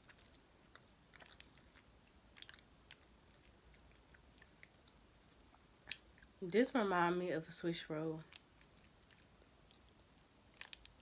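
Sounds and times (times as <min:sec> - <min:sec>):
chewing soft cake: 0:00.0 - 0:06.4, 0:08.2 - 0:11.0.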